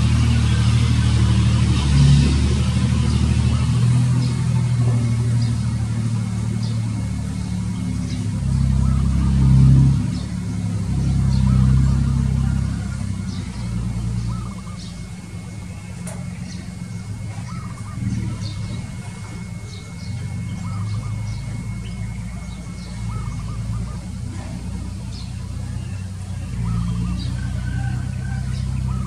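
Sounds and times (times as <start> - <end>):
small birds chirping: 0.0 - 29.0
vehicle engine rumble: 0.0 - 29.0.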